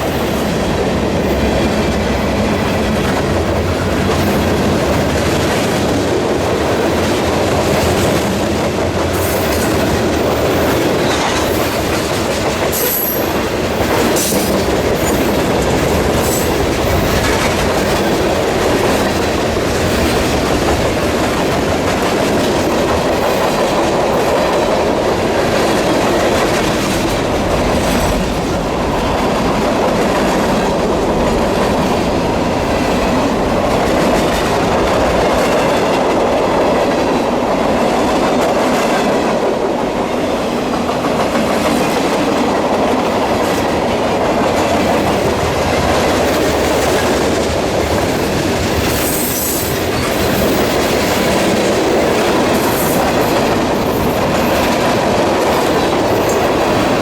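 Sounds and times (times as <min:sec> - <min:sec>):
train wheels clickety-clack: 0:00.0 - 0:57.0.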